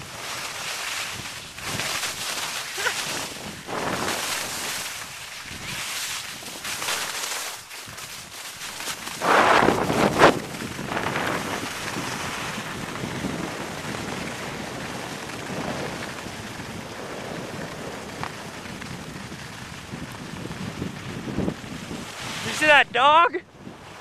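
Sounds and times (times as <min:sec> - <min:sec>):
skis hissing over snow: 0:00.0 - 0:24.0
wind on microphone: 0:01.0 - 0:06.7, 0:08.9 - 0:24.0.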